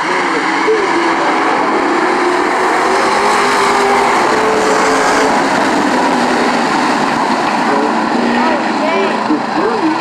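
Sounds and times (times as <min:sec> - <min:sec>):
race car engines: 0:00.0 - 0:10.0.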